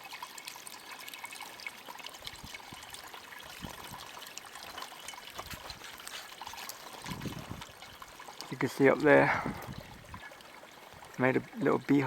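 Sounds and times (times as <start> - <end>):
small waterfall splashing into pond: 0.0 - 12.0.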